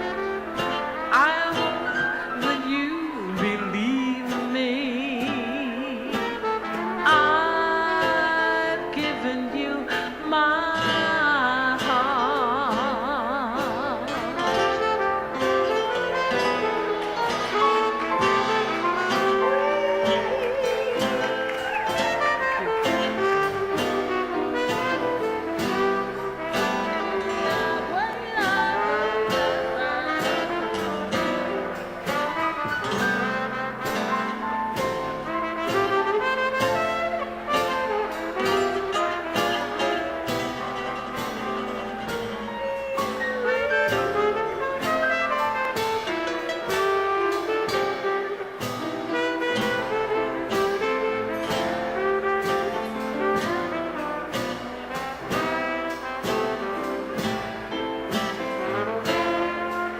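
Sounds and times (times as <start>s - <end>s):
jazz dance orchestra: 0.0s - 59.9s.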